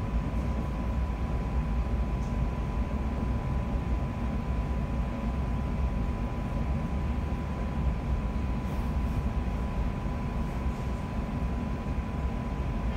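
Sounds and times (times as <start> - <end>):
thin steady whine: 0.0 - 12.9.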